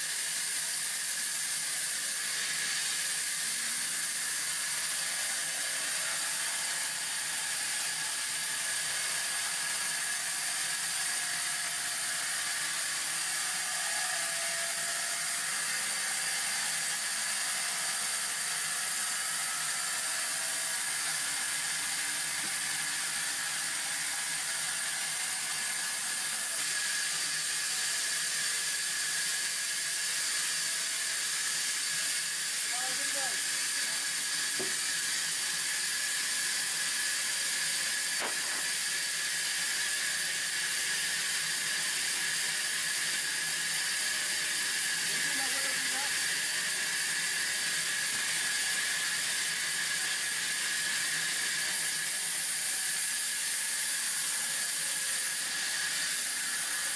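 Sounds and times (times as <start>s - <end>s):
band saw cutting timber: 0.0s - 56.9s.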